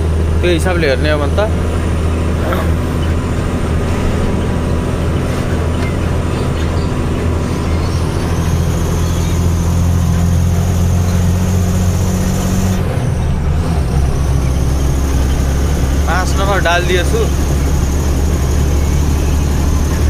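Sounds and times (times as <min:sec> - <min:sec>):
road noise: 0:00.0 - 0:20.0
truck engine drone: 0:00.0 - 0:20.0.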